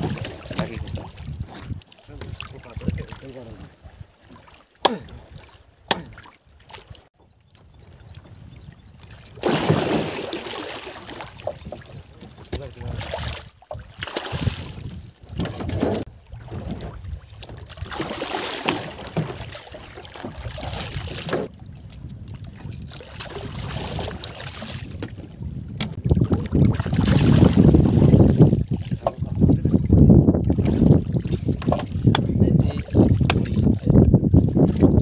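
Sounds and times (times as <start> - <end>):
wind rumbling on microphone: 0.0 - 4.4, 5.1 - 35.0
water lapping against boat: 0.0 - 35.0.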